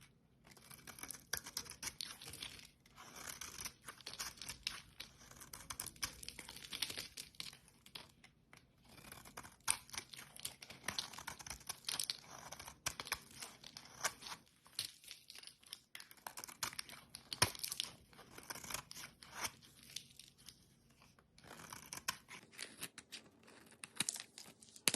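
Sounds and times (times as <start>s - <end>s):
blade cutting soap crackling: 0.4s - 24.9s.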